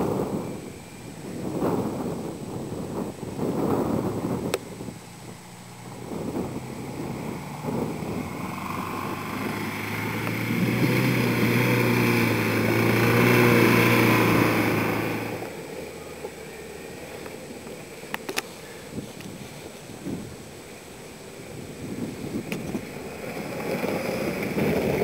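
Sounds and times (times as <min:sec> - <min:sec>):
small engine passing by: 0:00.0 - 0:19.9, 0:20.6 - 0:25.0.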